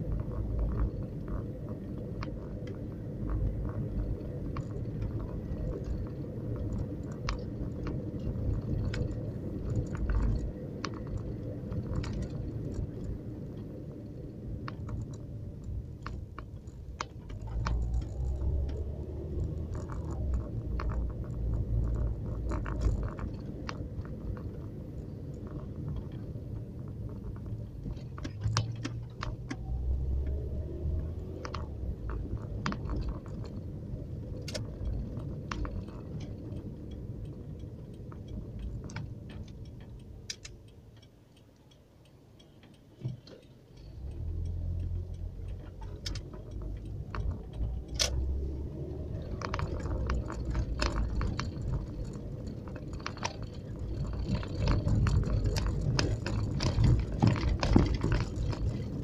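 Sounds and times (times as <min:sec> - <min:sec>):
clicks and rattles in car: 0:00.0 - 0:41.0, 0:45.0 - 0:59.0
engine rumble: 0:00.0 - 0:59.0
tyres on the road: 0:00.0 - 0:59.0.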